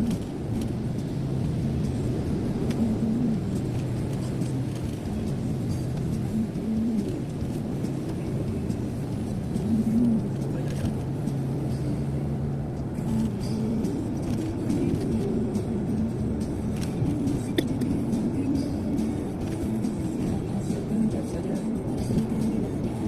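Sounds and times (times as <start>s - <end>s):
car cabin road and engine noise: 0.0s - 23.0s.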